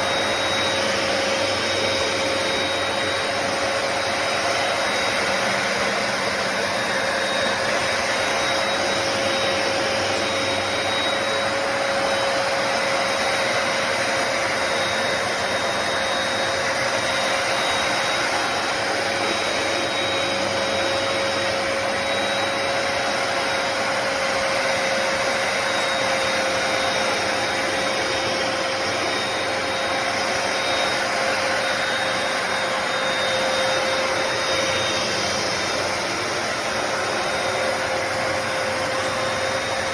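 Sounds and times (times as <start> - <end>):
carpet cleaner motor whining: 0.0 - 39.9.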